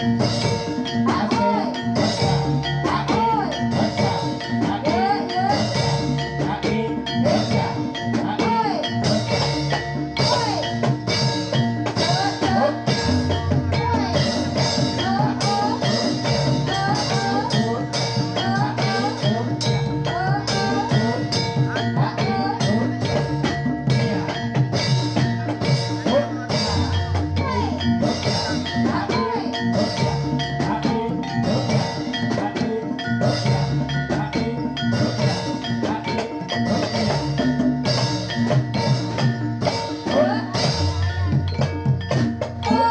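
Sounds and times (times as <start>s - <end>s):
drums beating: 0.0s - 42.9s
ringing tones: 0.0s - 42.9s.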